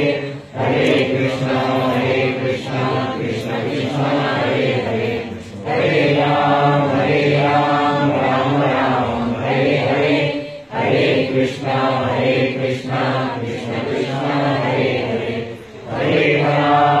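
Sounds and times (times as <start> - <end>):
group chanting a mantra: 0.0 - 17.0.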